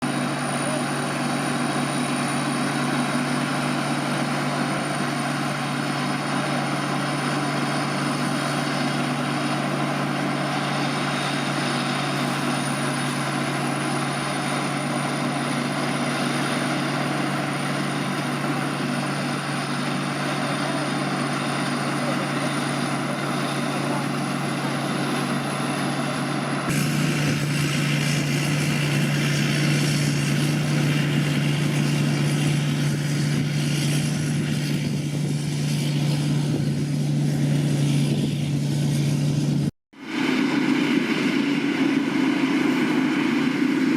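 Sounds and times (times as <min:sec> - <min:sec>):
combine harvester engine drone: 0:00.0 - 0:43.9
high whine: 0:00.0 - 0:43.9.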